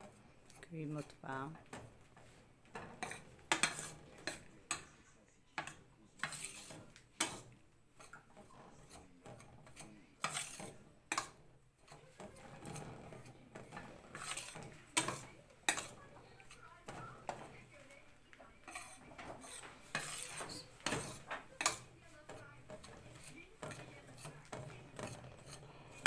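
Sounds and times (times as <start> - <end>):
spoon scraping in a pan: 0.0 - 26.0.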